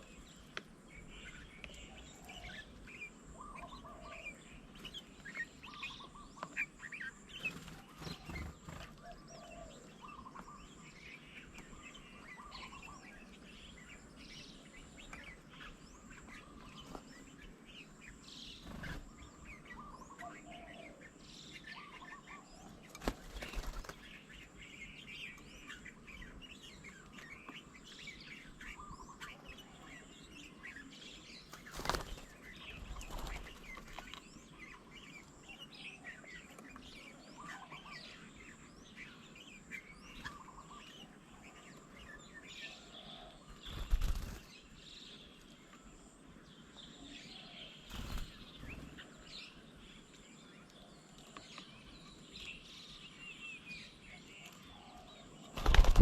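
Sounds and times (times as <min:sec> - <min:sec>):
garden birds chirping: 0:00.0 - 0:56.0.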